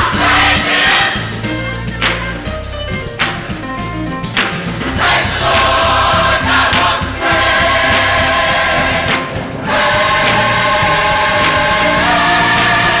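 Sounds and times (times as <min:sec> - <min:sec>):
gospel choir singing: 0:00.0 - 0:02.2, 0:04.7 - 0:13.0
instrumental backing: 0:00.0 - 0:13.0.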